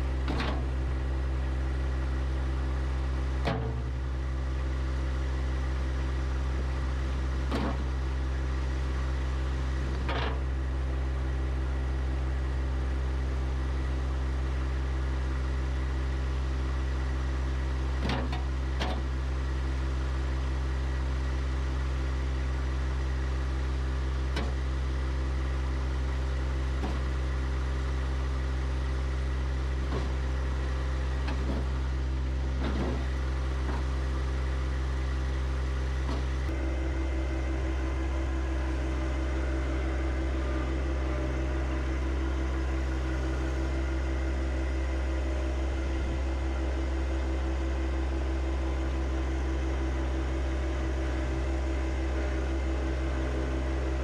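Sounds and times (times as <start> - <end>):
steady droning tone: 0.0 - 18.6, 28.4 - 54.0
tractor diesel engine running: 0.0 - 54.0.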